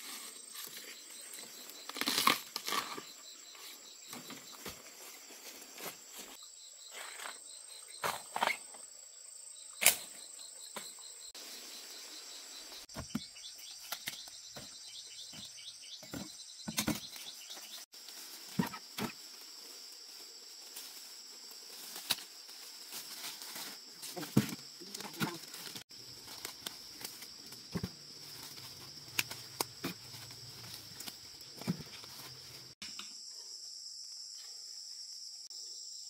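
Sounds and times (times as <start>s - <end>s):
insects trilling: 0.0s - 36.0s.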